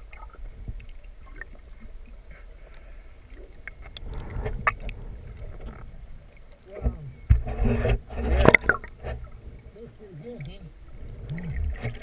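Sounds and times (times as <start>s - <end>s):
underwater low rumble: 0.0s - 12.0s.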